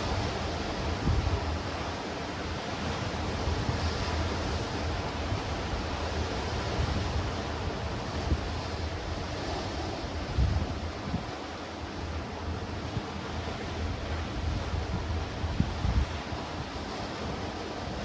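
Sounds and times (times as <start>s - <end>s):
sea waves washing against rocks: 0.0s - 18.0s
wind buffeting microphone: 0.0s - 18.0s.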